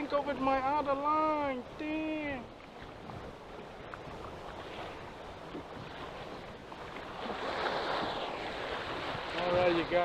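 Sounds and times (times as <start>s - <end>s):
waves washing against a boat: 0.0s - 10.0s
wind: 0.0s - 10.0s.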